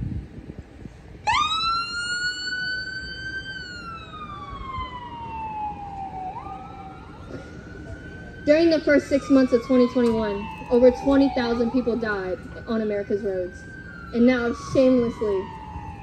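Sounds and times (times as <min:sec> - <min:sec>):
electronic wail siren: 0:01.2 - 0:16.0.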